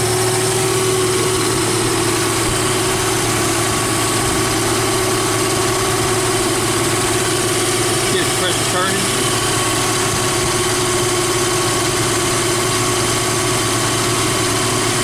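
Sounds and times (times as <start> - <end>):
air compressor pumping: 0.0 - 15.0
car engine idling: 0.0 - 15.0.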